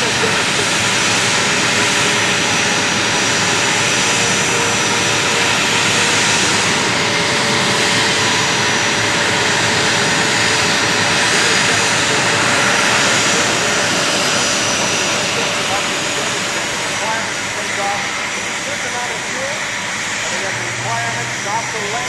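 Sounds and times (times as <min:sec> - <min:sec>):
jet engine roar with high whine: 0:00.0 - 0:22.0.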